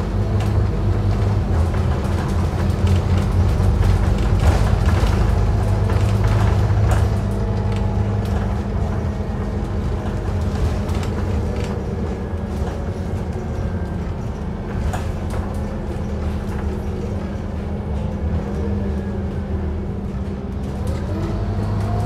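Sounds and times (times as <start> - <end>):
bus engine and road drone: 0.0 - 22.0.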